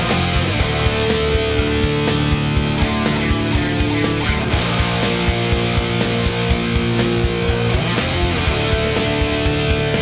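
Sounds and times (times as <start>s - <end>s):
rock music with electric guitar: 0.0s - 10.0s.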